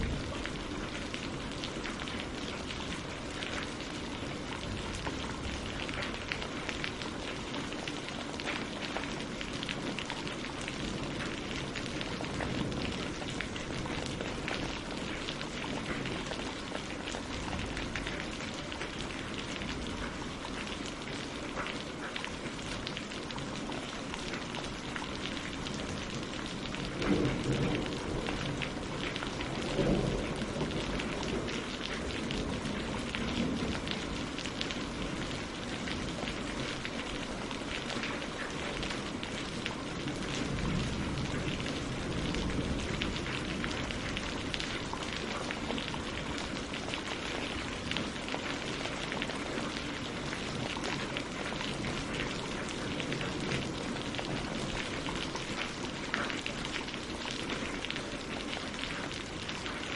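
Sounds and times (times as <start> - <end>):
rain on leaves and water: 0.0 - 59.9.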